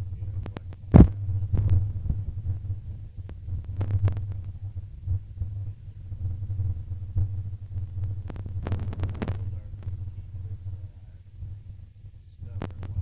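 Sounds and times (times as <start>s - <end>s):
low throbbing hum: 0.0s - 13.0s.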